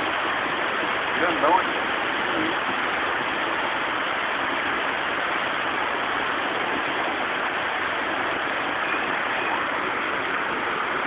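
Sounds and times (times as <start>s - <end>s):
floodwater rushing down street: 0.0s - 11.0s
heavy rain: 0.0s - 11.0s.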